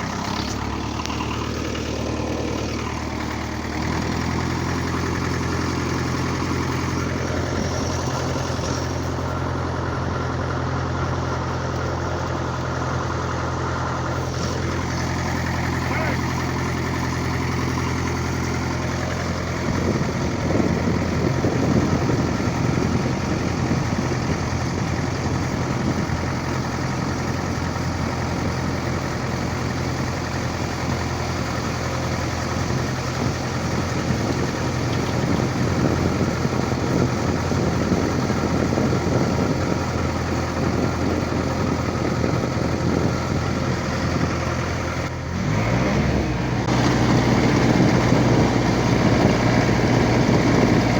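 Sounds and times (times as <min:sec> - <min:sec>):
rattling rumble: 0:00.0 - 0:50.9
vehicle engine humming: 0:00.0 - 0:50.9.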